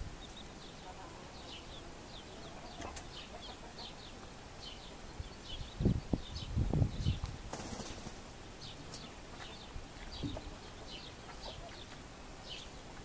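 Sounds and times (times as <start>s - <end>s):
chicks peeping: 0.0s - 8.0s, 8.6s - 13.0s.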